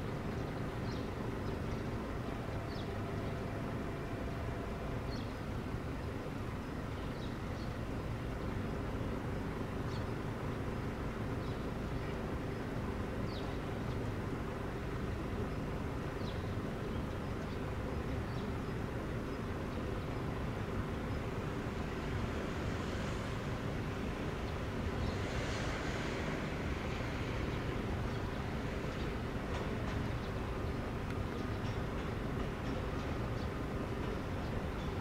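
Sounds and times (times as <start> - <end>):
electric train rumbling: 0.0 - 35.0.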